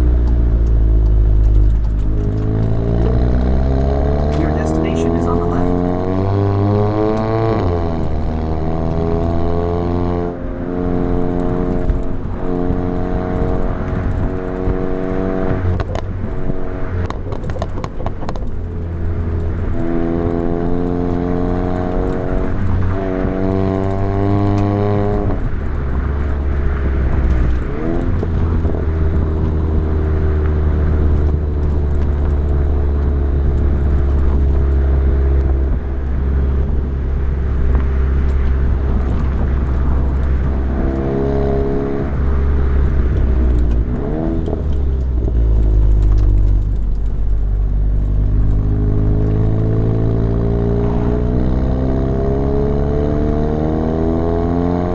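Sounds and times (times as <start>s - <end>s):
car engine revving through gears: 0.0s - 54.9s.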